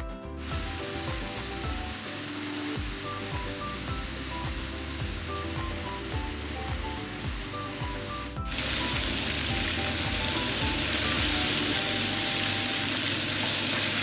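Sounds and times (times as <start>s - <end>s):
background music: 0.0s - 14.0s
pasta and vegetables sizzling: 0.3s - 14.0s.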